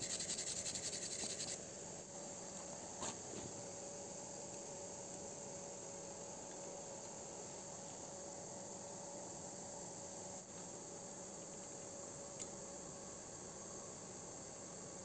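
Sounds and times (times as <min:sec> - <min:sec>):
crickets chirring: 0:00.0 - 0:15.0
faint steady hum: 0:00.0 - 0:15.0.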